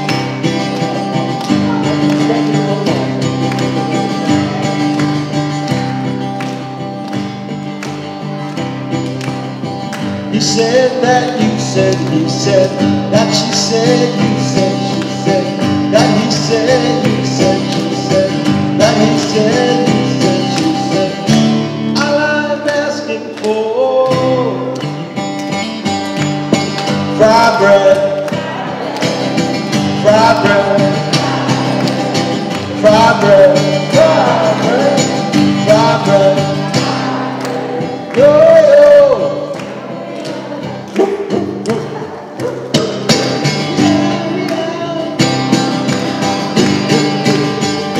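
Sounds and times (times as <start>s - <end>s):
acoustic guitar strumming: 0.0s - 47.9s
man singing: 1.0s - 4.8s, 10.2s - 24.8s, 26.9s - 47.9s.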